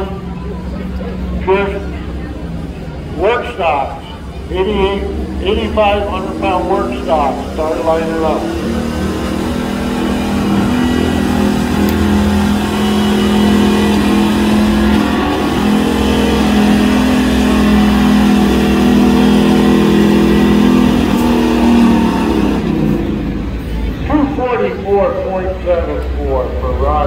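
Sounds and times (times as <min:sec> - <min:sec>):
truck engine at high revs: 0:00.0 - 0:27.0.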